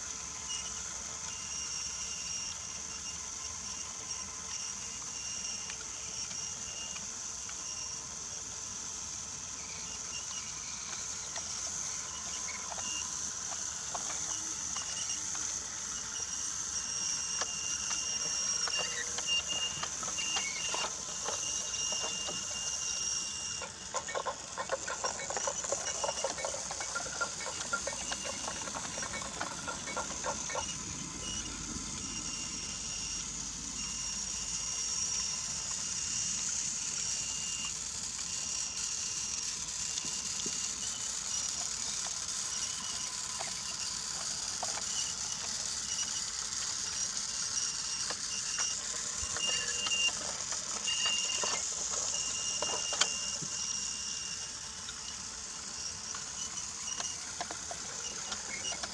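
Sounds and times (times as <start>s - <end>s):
toy train cars clicking on track: 0.0s - 58.9s
toy train motor whine: 0.0s - 58.9s.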